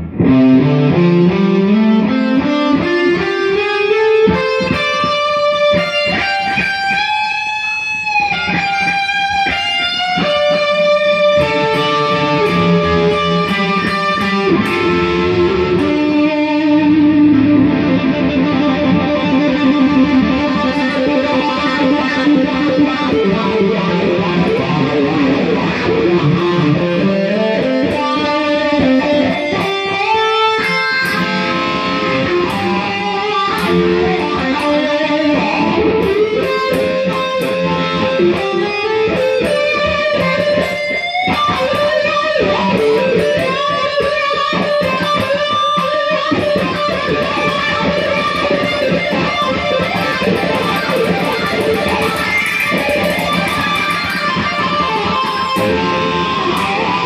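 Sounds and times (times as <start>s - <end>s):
electric guitar blues licks: 0.0s - 57.0s.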